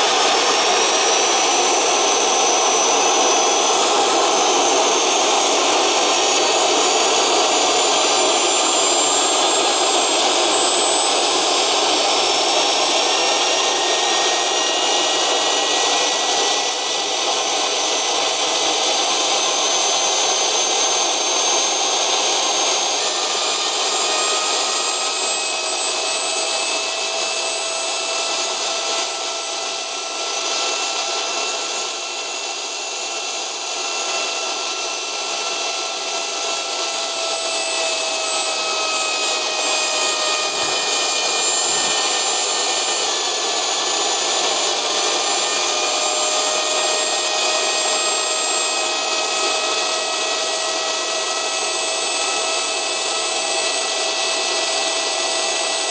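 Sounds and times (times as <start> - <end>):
jet engine rushing and whining: 0.0 - 55.9.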